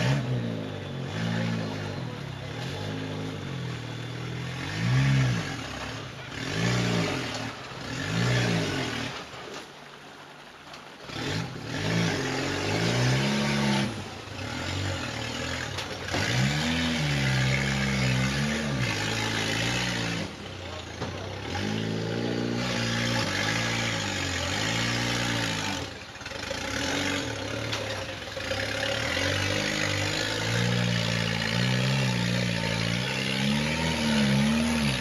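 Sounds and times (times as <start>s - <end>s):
buggy engine revving: 0.0s - 35.0s.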